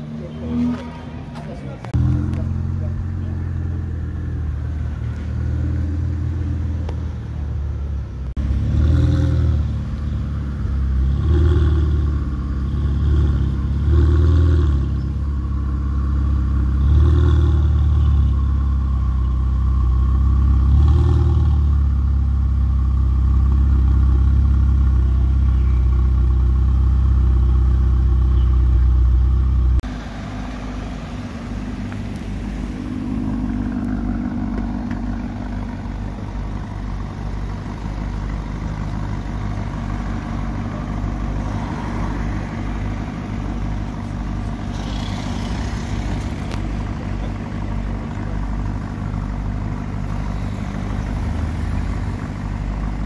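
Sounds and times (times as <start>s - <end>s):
engine throttle blips: 0.0s - 53.0s
sports car engine idling: 0.0s - 53.0s.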